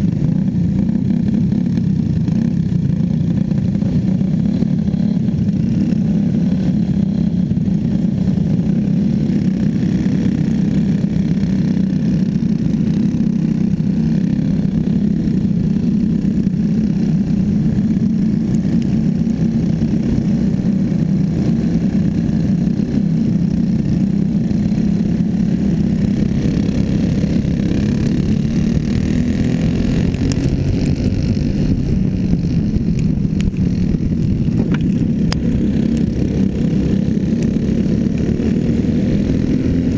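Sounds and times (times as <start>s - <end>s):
small racing engine droning: 0.0s - 39.9s.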